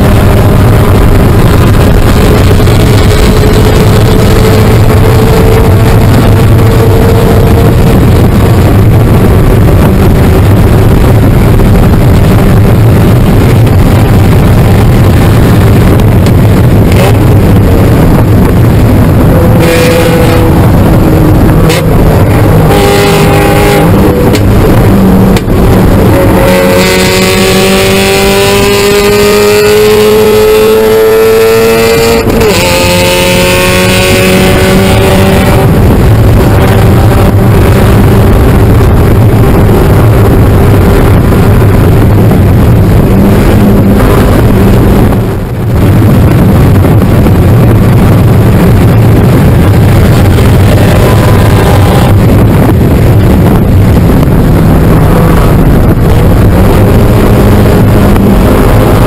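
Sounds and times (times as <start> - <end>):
race car engine at high revs: 0.0 - 59.0
road and wind noise: 0.0 - 59.0.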